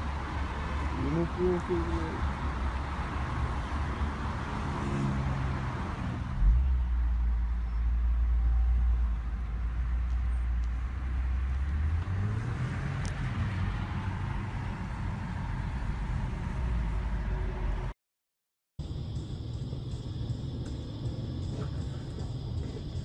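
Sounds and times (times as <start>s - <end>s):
car road and engine rumble: 0.0s - 18.0s, 18.8s - 23.0s.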